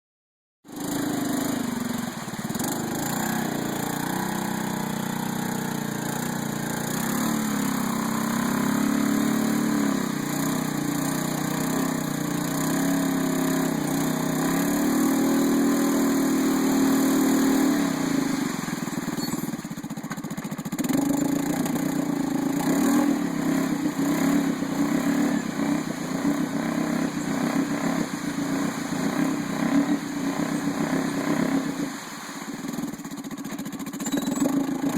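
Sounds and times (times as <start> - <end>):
engine revving: 0.7 - 19.5, 20.4 - 32.0, 32.7 - 34.9.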